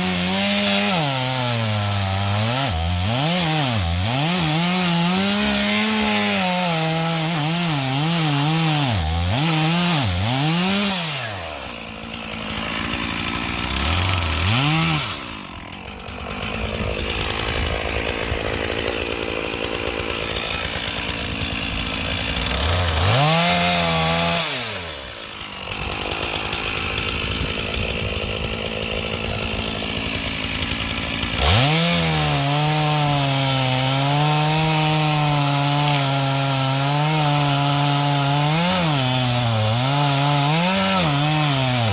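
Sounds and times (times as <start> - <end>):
chainsaw revving and cutting wood: 0.0 - 41.9.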